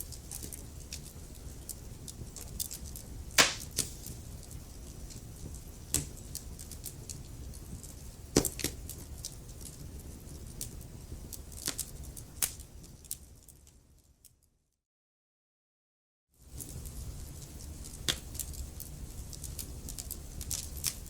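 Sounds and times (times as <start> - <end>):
wood fire crackling: 0.4 - 13.6, 16.6 - 21.0.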